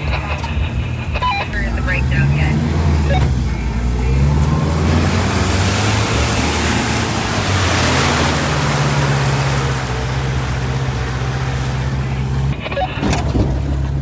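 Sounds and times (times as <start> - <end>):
rushing noise: 0.0 - 13.2
car engine at low revs: 0.0 - 14.0.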